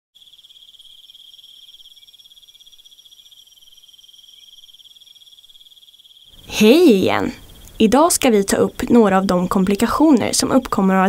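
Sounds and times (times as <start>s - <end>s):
high-pitched insect trill: 0.2s - 11.0s.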